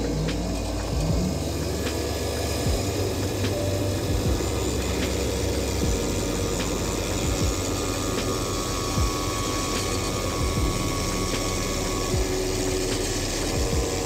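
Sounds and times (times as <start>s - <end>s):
abrasive wheel on leather: 0.0s - 14.0s
machine motor hum: 0.0s - 14.0s.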